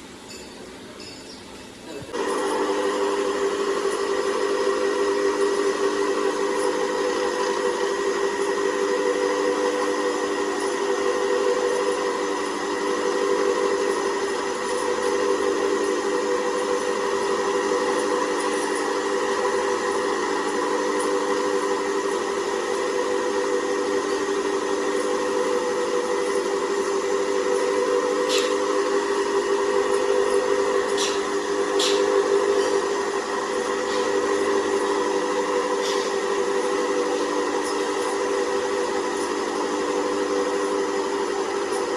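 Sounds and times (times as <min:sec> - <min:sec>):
workshop machine humming: 0:00.0 - 0:41.9.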